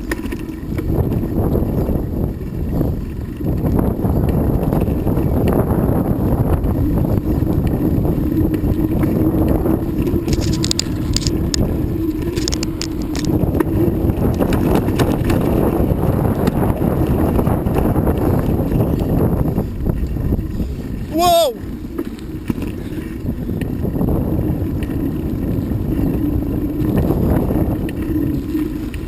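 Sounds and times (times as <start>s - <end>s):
tyres rumbling on road: 0.0s - 29.0s
wind rushing over microphone: 0.0s - 29.0s.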